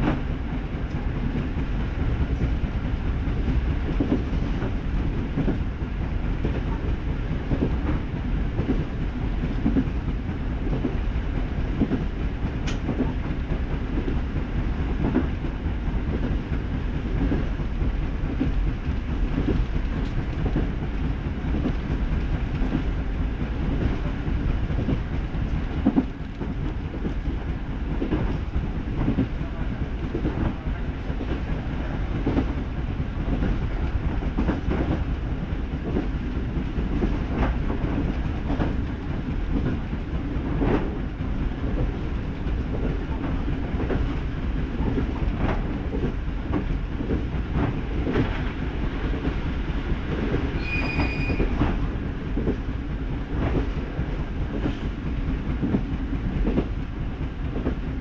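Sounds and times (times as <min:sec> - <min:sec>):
train rolling rumble: 0:00.0 - 0:58.0.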